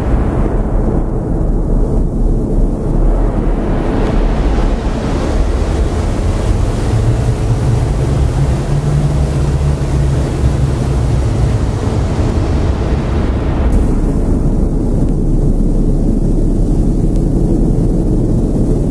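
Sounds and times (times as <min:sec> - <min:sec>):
low hum: 0:00.0 - 0:18.9
steady rumbling noise: 0:00.0 - 0:18.9.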